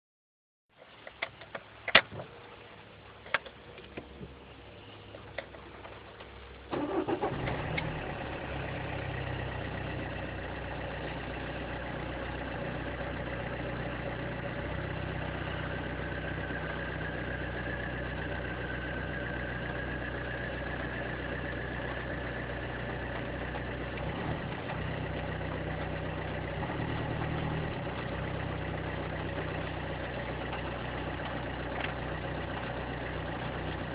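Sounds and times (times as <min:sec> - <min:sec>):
diesel engine starting and idling: 0:04.4 - 0:33.9.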